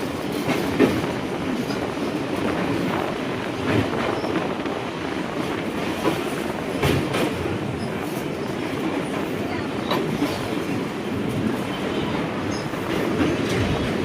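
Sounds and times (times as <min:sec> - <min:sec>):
train rumbling on rails: 0:00.0 - 0:14.0
wheels clacking over rail joints: 0:00.0 - 0:14.0.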